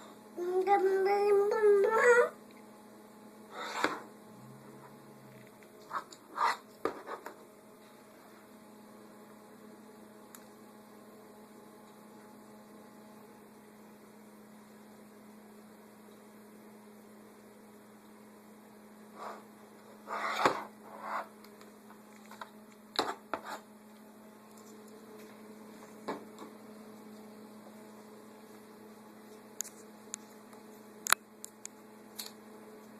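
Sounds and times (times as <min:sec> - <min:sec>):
low electrical hum: 0:00.0 - 0:32.9.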